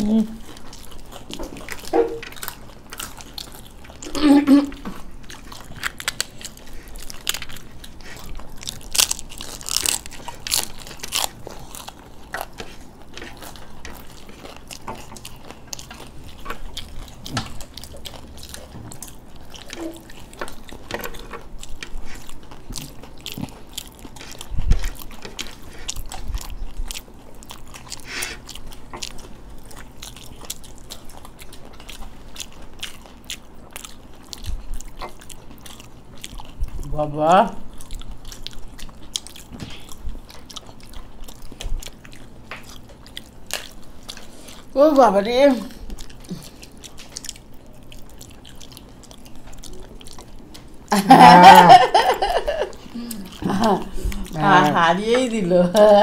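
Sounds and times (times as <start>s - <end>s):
chewing crisp fried snack: 0.0s - 56.0s.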